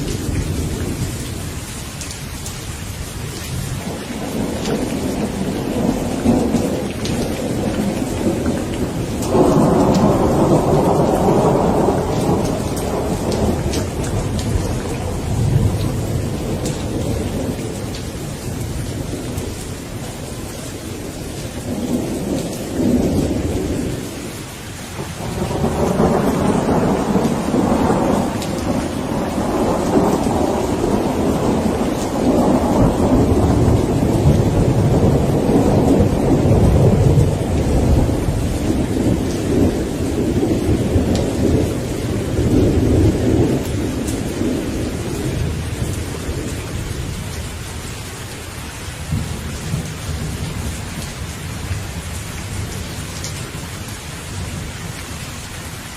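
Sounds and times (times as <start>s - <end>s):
rolling thunder: 0.0s - 1.8s, 3.1s - 47.4s, 49.0s - 53.7s
steady rain: 0.0s - 55.9s.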